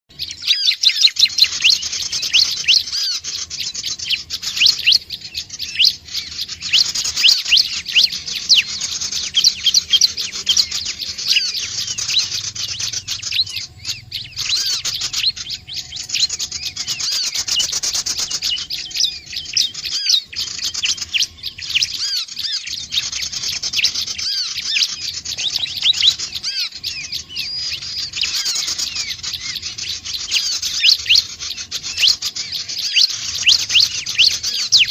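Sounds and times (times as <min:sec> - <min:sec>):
bird chirping rapidly: 0:00.1 - 0:34.9.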